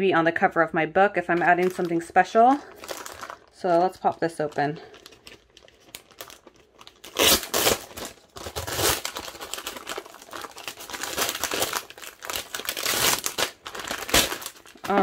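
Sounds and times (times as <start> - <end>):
plastic wrapping crinkling: 1.3 - 15.0.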